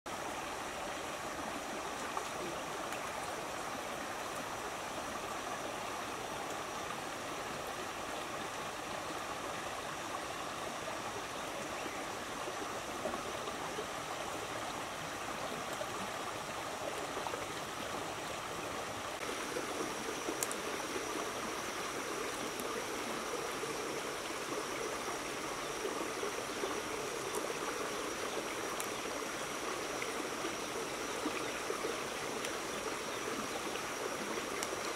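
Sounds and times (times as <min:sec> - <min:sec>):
river water rushing over rocks: 0:00.2 - 0:34.9.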